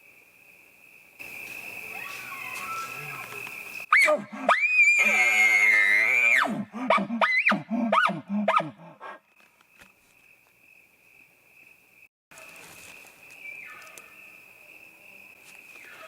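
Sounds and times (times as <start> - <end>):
cricket trill: 0.0 - 16.0.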